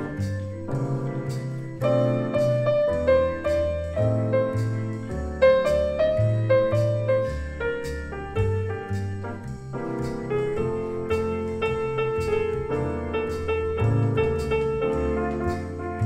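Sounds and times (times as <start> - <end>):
bass line: 0.0 - 16.0
grand piano playing jazz chords: 0.0 - 16.0.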